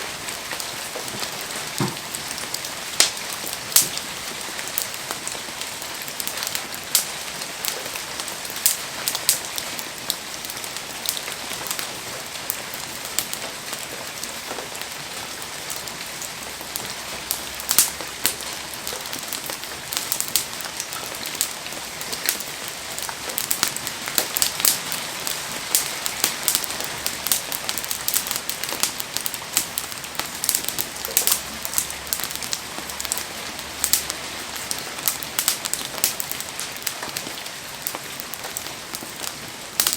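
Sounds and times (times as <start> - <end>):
heavy rain: 0.0 - 39.9
raindrops ticking on surfaces: 0.0 - 39.9.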